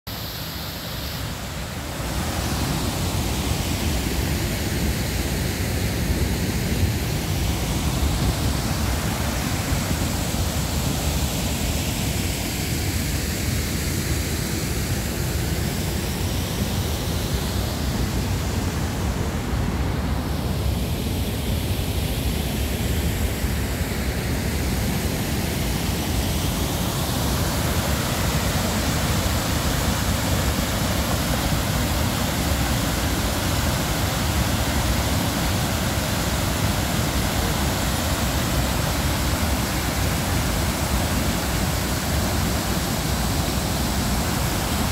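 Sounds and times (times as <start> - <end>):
river water rushing over weir: 0.1 - 44.9.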